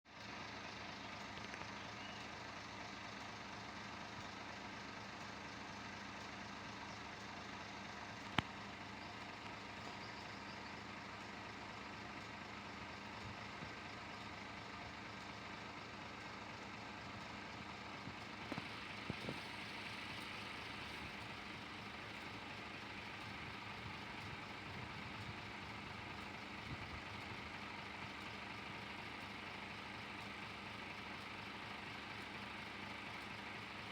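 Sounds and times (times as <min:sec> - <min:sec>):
bus diesel engine running: 0:00.1 - 0:33.9.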